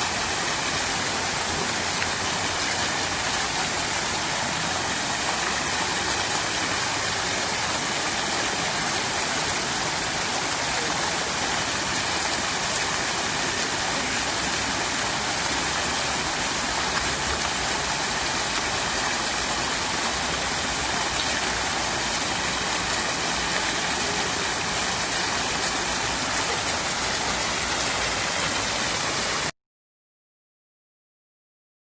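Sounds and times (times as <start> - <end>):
fountain water splashing: 0.0 - 29.5.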